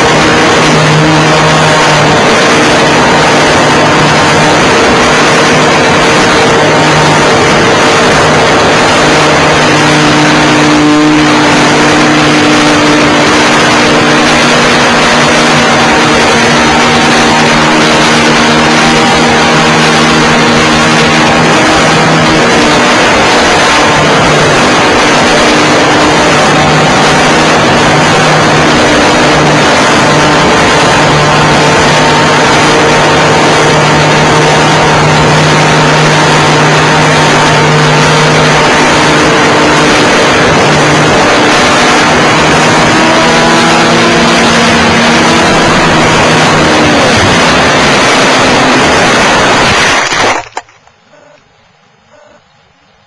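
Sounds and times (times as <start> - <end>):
model plane engine running: 0.0 - 50.4.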